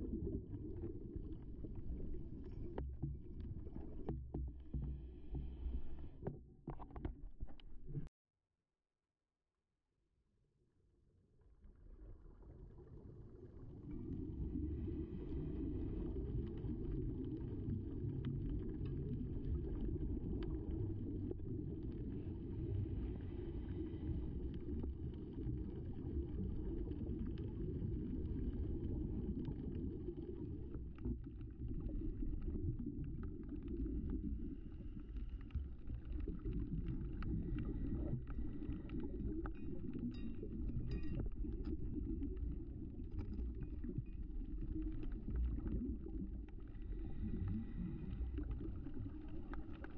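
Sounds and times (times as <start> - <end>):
underwater rumble of moving water: 0.0 - 8.1, 11.3 - 49.9.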